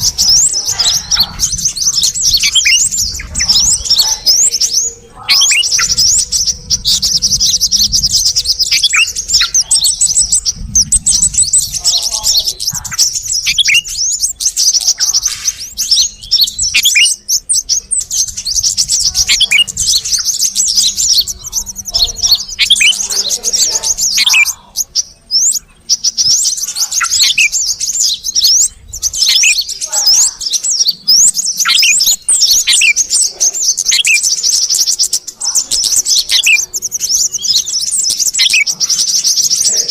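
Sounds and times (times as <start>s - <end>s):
bulbuls chattering and chirping: 0.0s - 39.9s.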